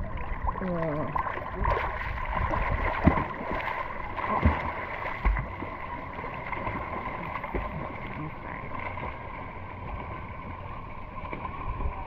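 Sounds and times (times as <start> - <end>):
seawater sloshing and splashing: 0.0 - 12.0.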